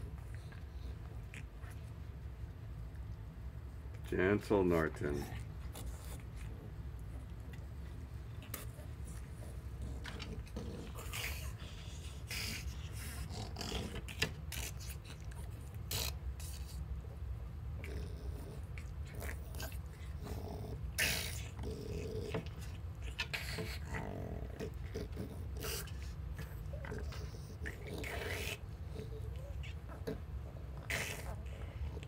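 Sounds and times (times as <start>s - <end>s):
dogs breathing and snuffling: 0.0s - 32.0s
steady low hum: 0.0s - 32.0s.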